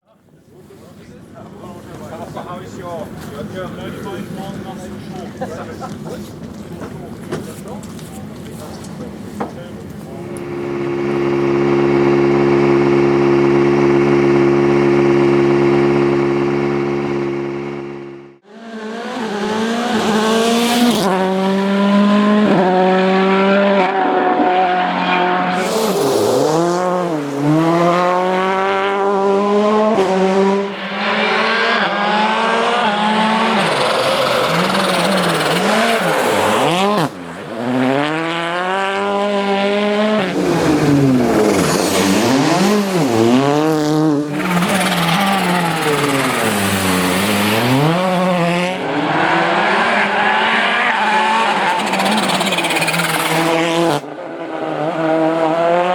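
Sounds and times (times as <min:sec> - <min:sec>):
rally car engine revving: 0:09.9 - 0:55.9.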